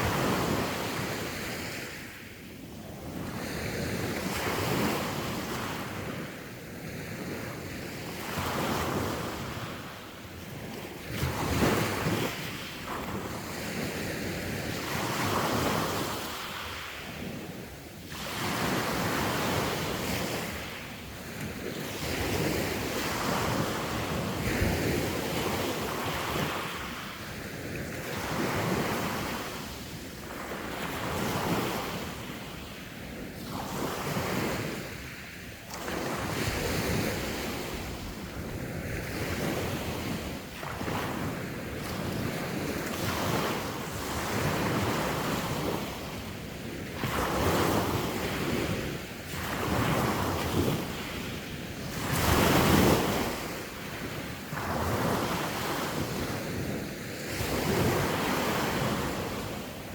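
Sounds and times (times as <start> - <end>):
sea waves washing onto shore: 0.0 - 59.9
wind buffeting microphone: 2.8 - 59.9.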